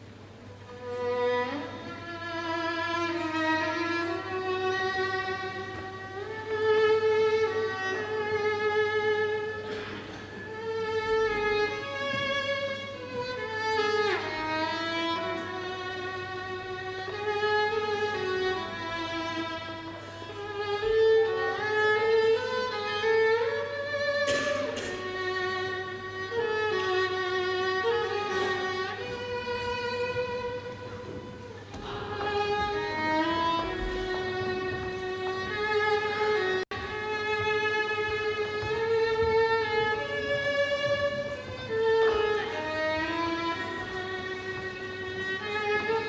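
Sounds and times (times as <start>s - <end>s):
solo violin slow melody: 0.0s - 46.0s.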